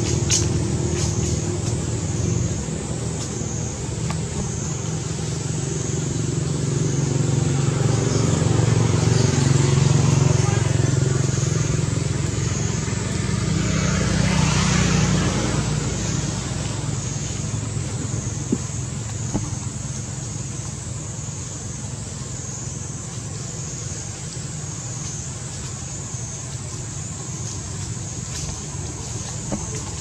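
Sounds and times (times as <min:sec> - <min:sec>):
vehicle engine passing: 0:00.0 - 0:30.0.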